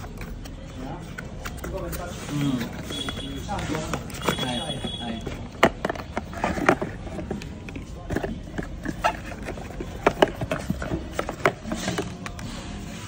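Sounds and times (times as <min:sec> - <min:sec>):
cardboard box handled: 0:01.1 - 0:13.0.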